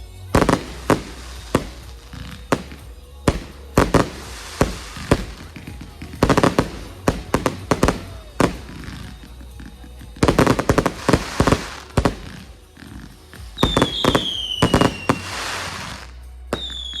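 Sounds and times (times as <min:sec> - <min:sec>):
fireworks bangs and crackles: 0:00.0 - 0:17.0
whistling firework: 0:00.4 - 0:09.3, 0:10.2 - 0:17.0.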